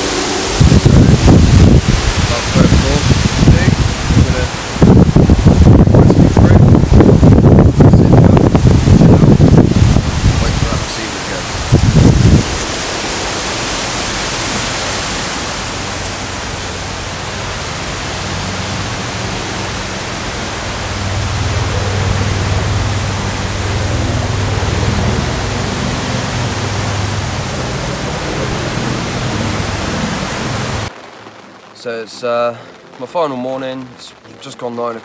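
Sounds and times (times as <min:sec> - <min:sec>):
wind buffeting microphone: 0:00.0 - 0:31.7.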